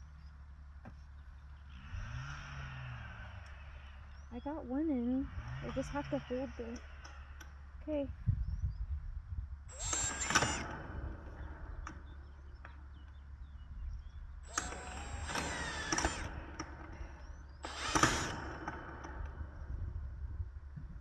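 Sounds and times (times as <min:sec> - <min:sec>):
cordless drill motor whine: 0:01.1 - 0:21.0.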